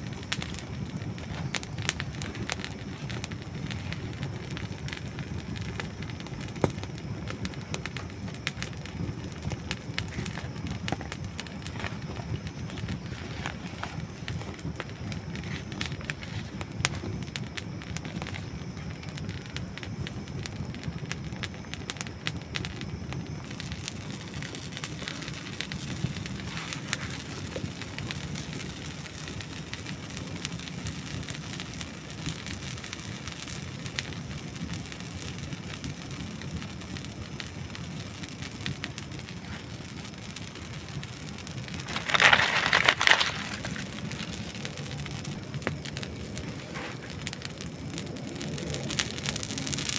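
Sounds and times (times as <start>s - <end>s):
campfire crackling and popping: 0.0s - 49.9s
low rumble of flames: 0.0s - 49.9s.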